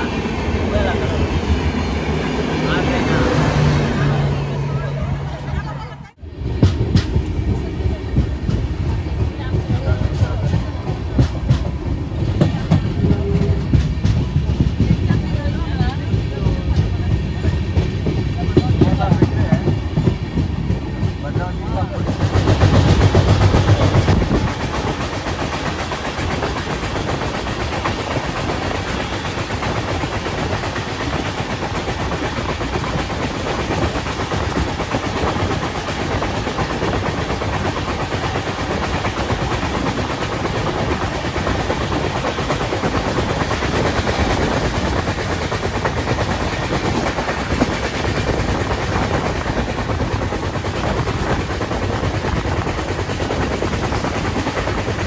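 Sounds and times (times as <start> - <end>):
passenger train rumbling: 0.0 - 55.0.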